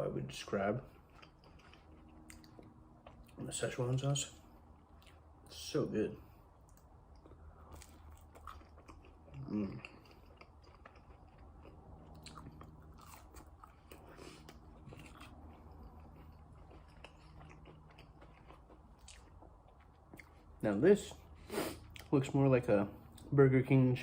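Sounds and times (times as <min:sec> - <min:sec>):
chewing and biting food: 0:00.2 - 0:05.6, 0:06.6 - 0:22.2.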